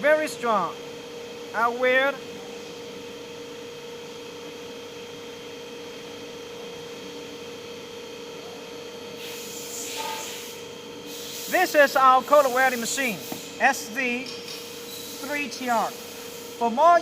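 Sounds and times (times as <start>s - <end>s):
steady mains hum: 0.0s - 17.0s.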